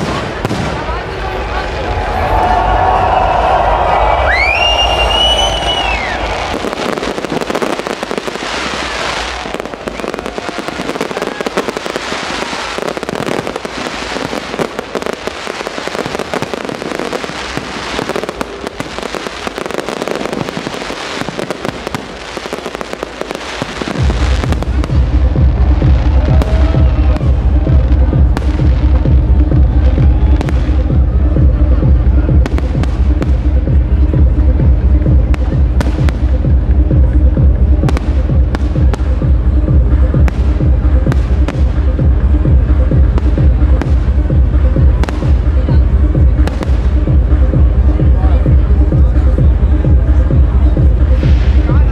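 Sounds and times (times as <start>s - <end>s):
fireworks crackling and banging: 0.0s - 51.9s
electronic dance music: 3.3s - 51.9s.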